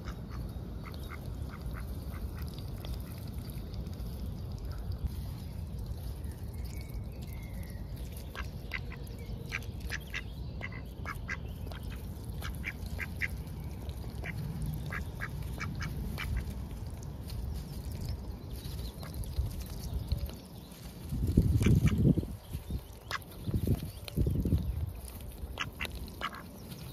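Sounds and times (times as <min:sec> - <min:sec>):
ducks feeding clicking: 0:00.0 - 0:26.9
steady low rumble: 0:00.0 - 0:26.9.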